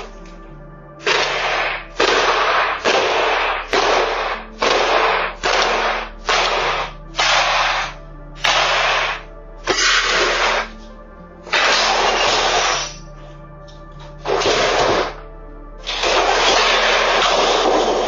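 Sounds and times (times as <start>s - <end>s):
held low notes: 0.0s - 18.0s.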